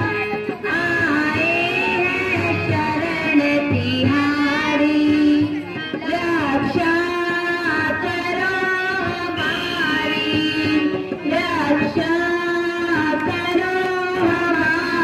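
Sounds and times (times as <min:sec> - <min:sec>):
tabla: 0:00.0 - 0:15.0.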